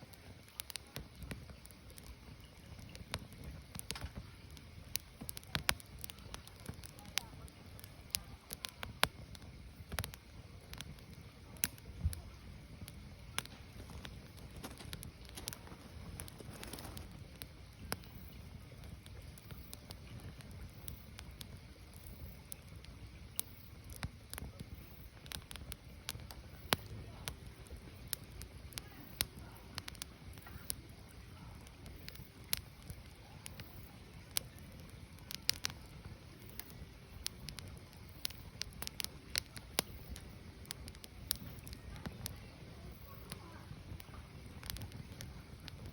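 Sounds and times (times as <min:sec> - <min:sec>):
firewood fire crackling: 0:00.0 - 0:45.9
low steady flames: 0:00.0 - 0:45.9.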